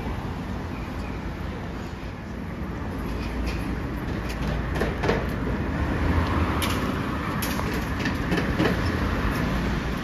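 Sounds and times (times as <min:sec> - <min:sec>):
low rumble of street traffic: 0:00.0 - 0:10.0.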